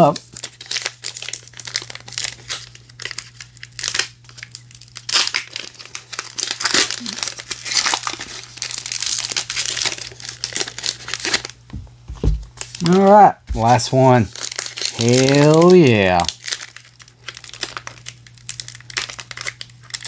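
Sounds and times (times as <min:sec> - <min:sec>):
plastic wrapper crinkling and tearing: 0:00.0 - 0:11.7, 0:12.5 - 0:20.0.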